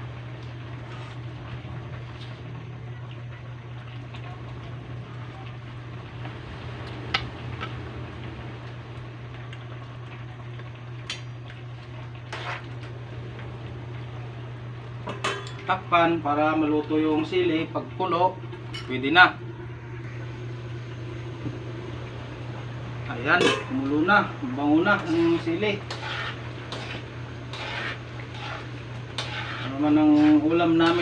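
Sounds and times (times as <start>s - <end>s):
broth bubbling in a pan: 0.0s - 31.0s
low steady hum: 0.0s - 31.0s.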